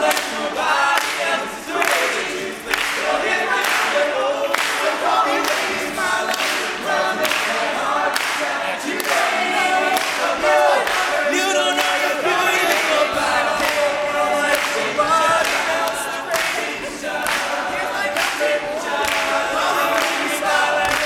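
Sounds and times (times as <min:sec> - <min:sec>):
male a cappella group singing: 0:00.0 - 0:21.0.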